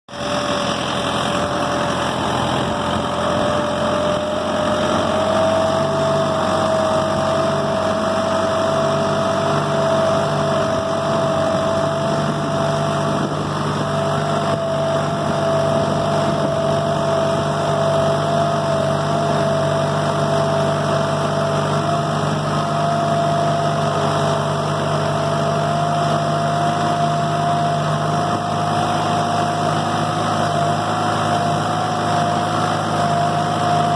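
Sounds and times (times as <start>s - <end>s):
steady whine: 0.1s - 33.9s
tractor diesel engine running: 0.1s - 33.9s.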